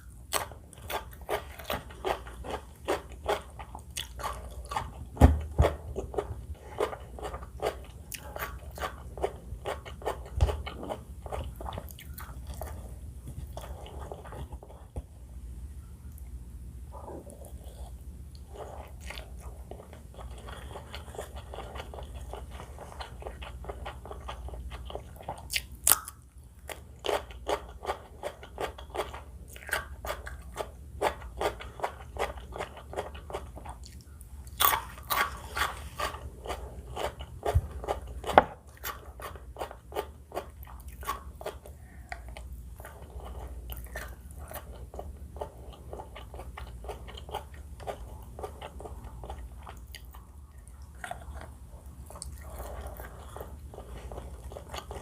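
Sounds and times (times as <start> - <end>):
person chewing crispy food: 0.0 - 15.0, 17.3 - 55.0.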